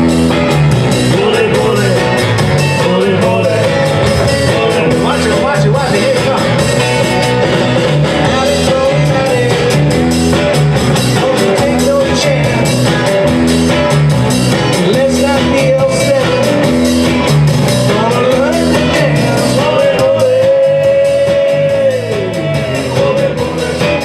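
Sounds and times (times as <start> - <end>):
drums: 0.0 - 24.0
electric guitar: 0.0 - 24.0
walking bass line: 0.0 - 24.0.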